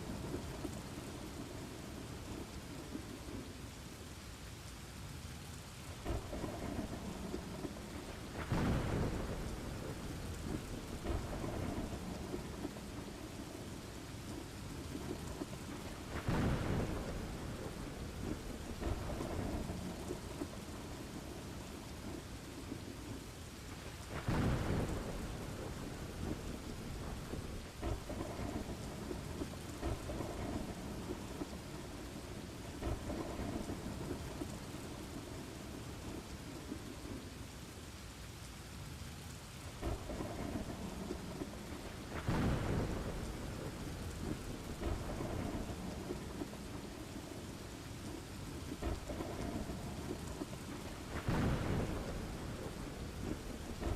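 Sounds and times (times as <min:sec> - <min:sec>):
steady rain: 0:00.0 - 0:53.9
rolling thunder: 0:06.0 - 0:37.2, 0:39.8 - 0:53.9.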